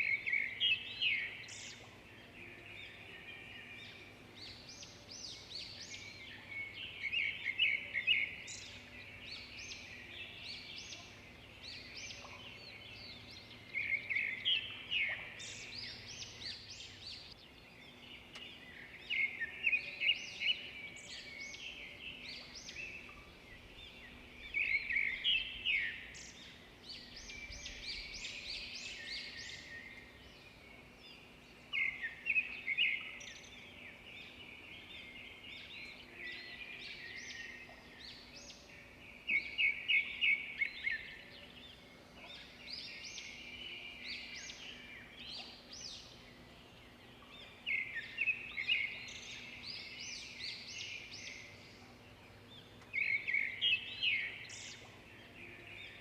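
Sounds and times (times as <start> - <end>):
bird chirping: 0.0 - 56.0
steady low background noise: 0.0 - 56.0.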